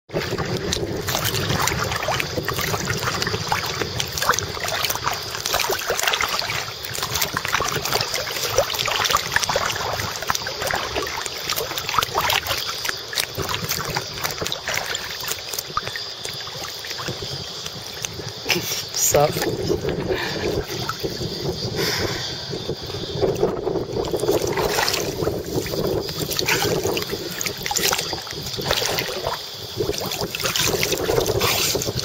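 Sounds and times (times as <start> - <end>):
choppy sea water lapping: 0.1 - 32.0.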